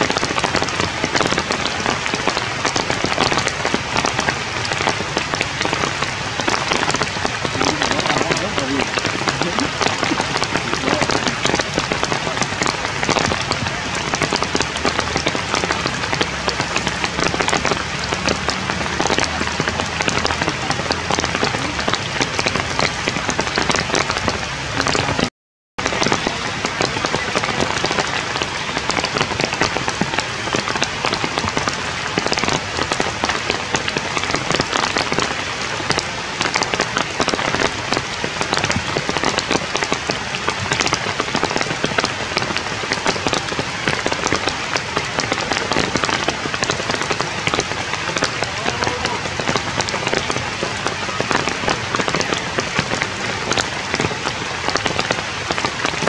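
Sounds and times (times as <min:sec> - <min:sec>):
rain dripping on leaves: 0:00.0 - 0:56.0.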